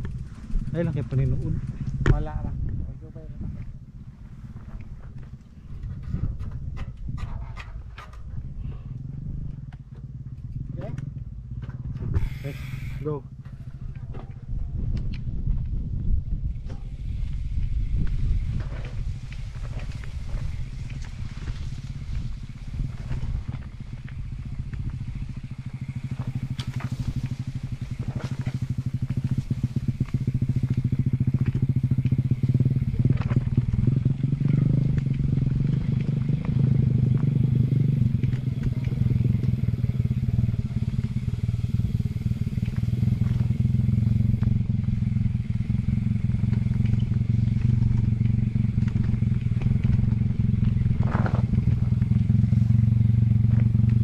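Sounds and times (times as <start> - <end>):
bike knocking and rattling: 0.0 - 54.0
wind rumbling on microphone: 0.0 - 54.0.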